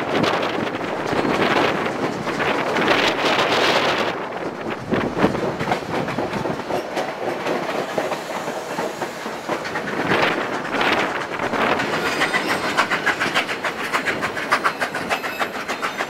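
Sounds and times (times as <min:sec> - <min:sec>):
train rattling on rails: 0:00.0 - 0:16.0
wheels clicking over rail joints: 0:00.2 - 0:16.0.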